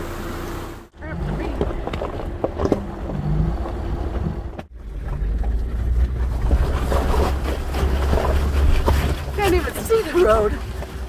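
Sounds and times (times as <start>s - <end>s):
vehicle rattles: 0.0s - 11.0s
vehicle rumble on dirt road: 0.0s - 11.0s.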